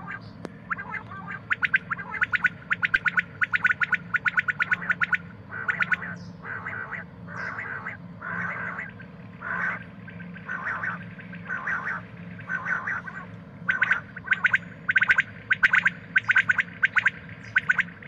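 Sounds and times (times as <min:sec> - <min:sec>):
low hum: 0:00.0 - 0:18.0
quail clicking pulses: 0:00.0 - 0:18.0
quail harsh calls: 0:00.0 - 0:18.0.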